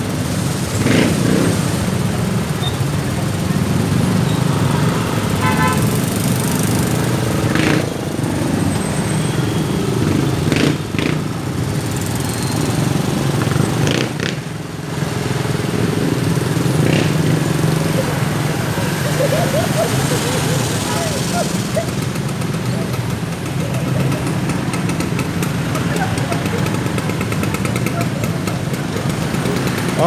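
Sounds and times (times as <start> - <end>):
motor scooters idling: 1.8 - 30.0.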